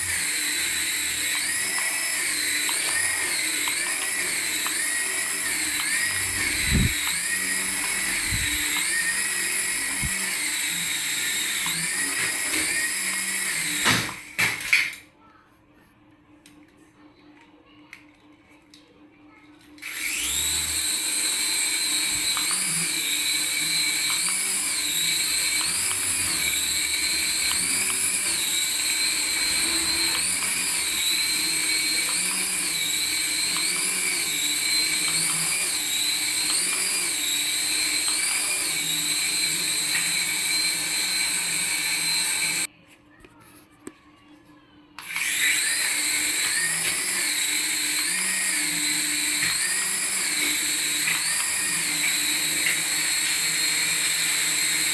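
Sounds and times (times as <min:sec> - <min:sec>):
electric motor whine: 0:00.0 - 0:14.3, 0:19.8 - 0:42.7, 0:45.0 - 0:54.9.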